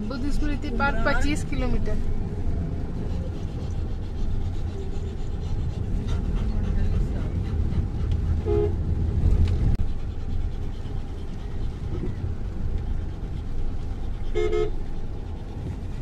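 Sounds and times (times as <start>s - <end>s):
car rumbling on rough road: 0.0s - 16.0s.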